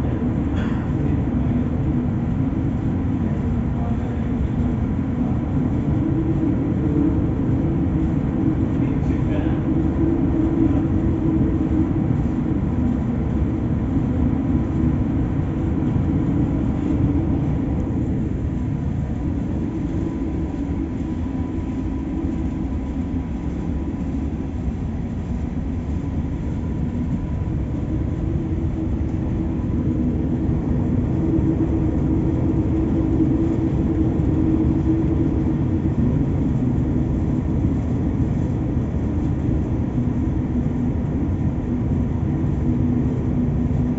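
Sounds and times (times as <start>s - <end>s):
faint steady hum: 0.0s - 43.9s
strong wind rumbling: 0.0s - 43.9s.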